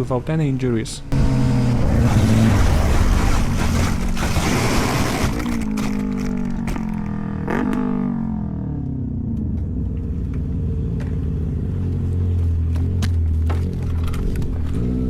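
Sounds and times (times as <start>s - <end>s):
vehicle engine low drone: 0.0s - 15.0s.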